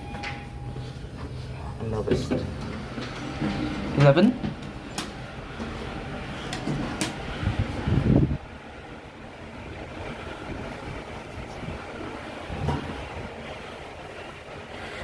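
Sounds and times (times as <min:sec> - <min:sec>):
lift rumbling and humming: 0:00.0 - 0:15.0.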